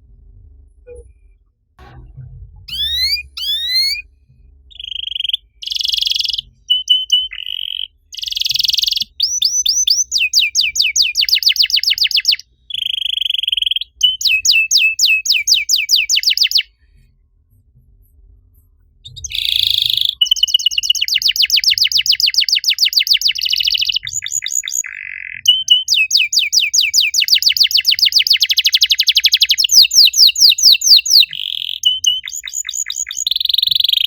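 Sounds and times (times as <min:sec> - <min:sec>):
canary singing: 0:02.7 - 0:04.0, 0:04.7 - 0:16.7, 0:19.1 - 0:34.0.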